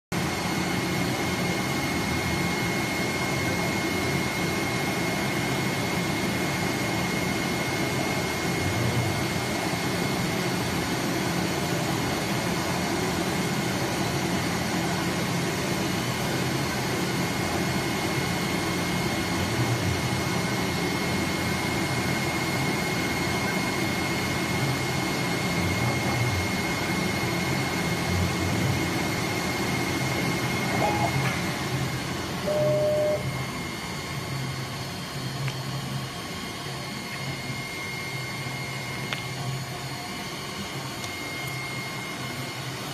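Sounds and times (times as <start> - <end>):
cutting machine high-pitched whine: 0.2 - 42.9.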